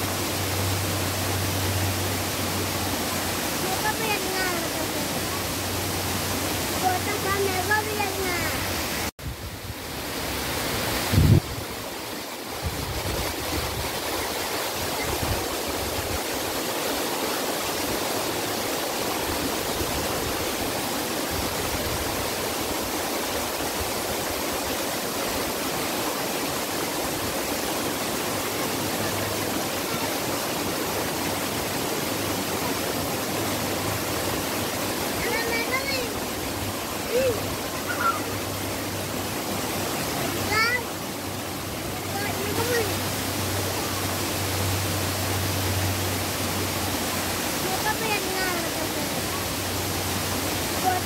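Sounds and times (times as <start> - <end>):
stream rushing over rocks: 0.0 - 51.0.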